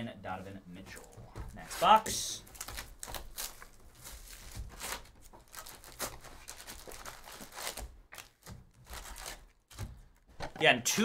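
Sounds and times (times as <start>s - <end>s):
foil packs rustling: 0.9s - 10.6s
shrink wrap crinkling and tearing: 1.0s - 10.3s.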